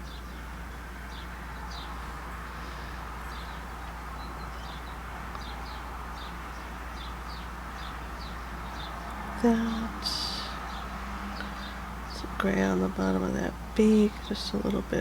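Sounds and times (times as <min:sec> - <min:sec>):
small bird chirping: 0:00.0 - 0:15.0
steady low hum: 0:00.0 - 0:15.0.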